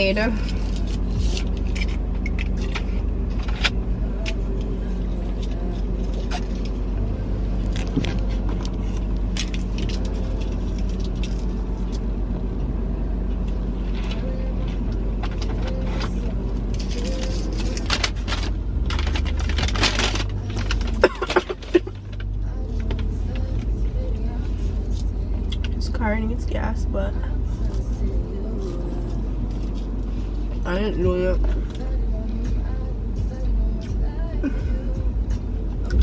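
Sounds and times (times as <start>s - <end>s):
car engine rumble from inside: 0.0s - 36.0s.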